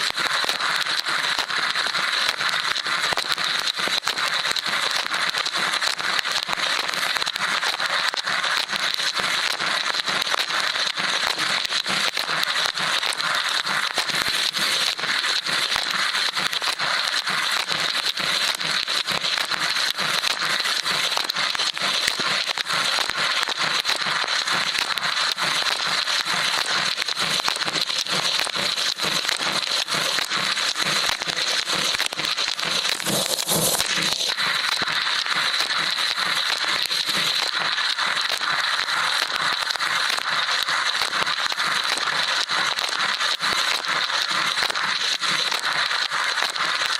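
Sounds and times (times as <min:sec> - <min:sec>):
water spray crackling spatter: 0:00.0 - 0:46.9.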